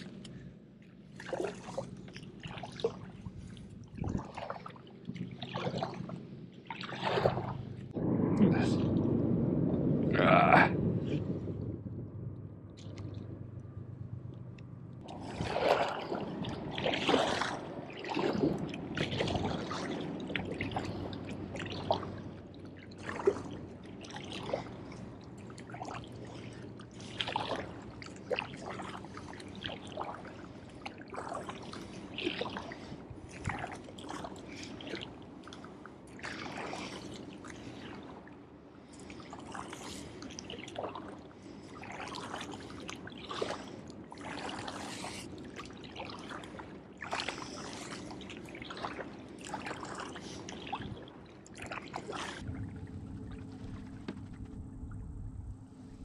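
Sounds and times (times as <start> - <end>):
paddle splashing in water: 1.1 - 8.0, 15.0 - 38.3, 38.9 - 53.8.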